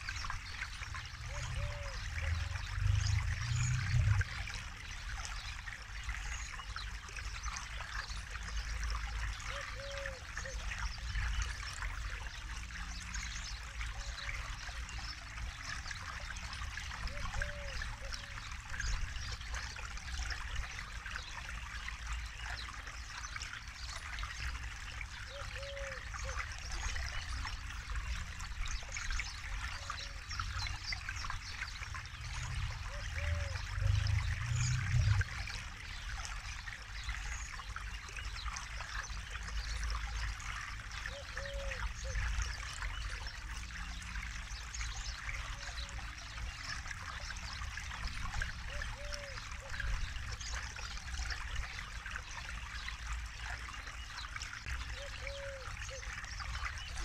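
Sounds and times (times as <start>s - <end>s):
river babbling over stones: 0.0s - 57.0s.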